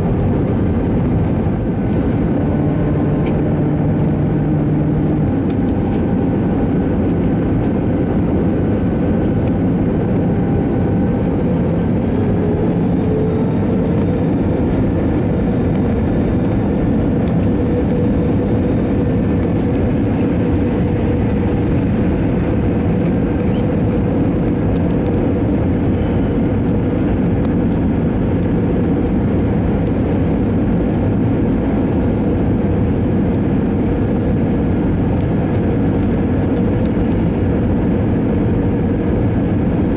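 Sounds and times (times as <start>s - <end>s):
faint engine whine: 0.0s - 39.9s
jet engine cabin rumble and hiss: 0.0s - 39.9s.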